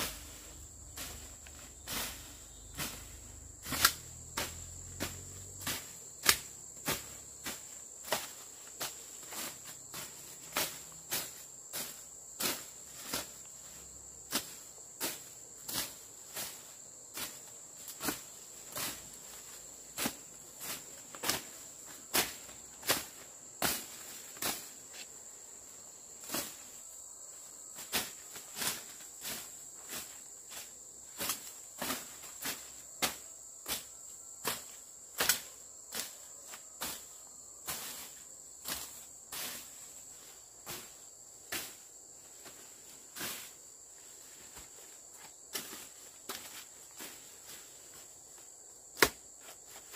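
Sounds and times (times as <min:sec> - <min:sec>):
insect chirring: 0:00.0 - 0:49.9.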